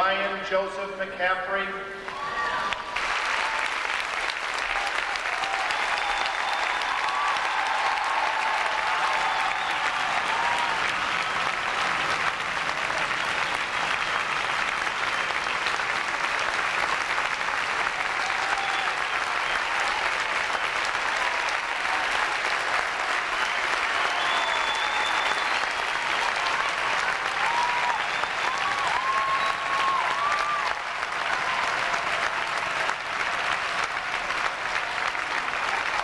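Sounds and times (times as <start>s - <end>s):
audience applauding: 2.1s - 36.0s.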